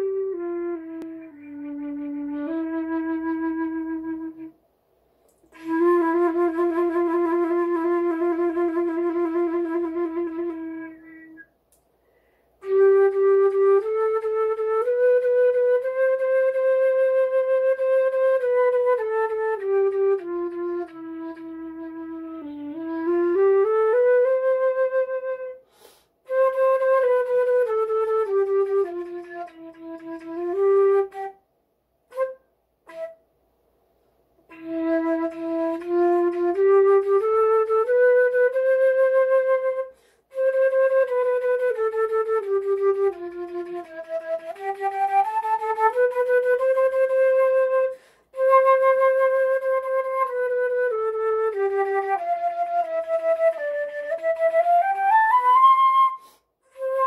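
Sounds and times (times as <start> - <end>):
flute playing slow melody: 0.0 - 4.6, 5.5 - 11.5, 12.6 - 25.7, 26.3 - 31.4, 32.1 - 33.2, 34.4 - 57.0.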